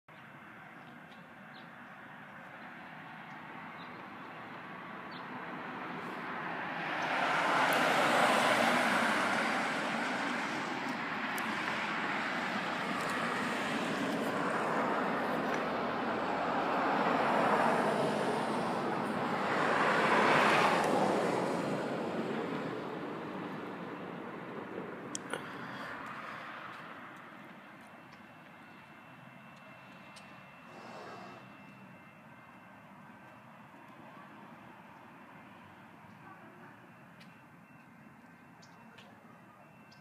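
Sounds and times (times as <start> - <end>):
cars passing by: 0.1 - 40.0.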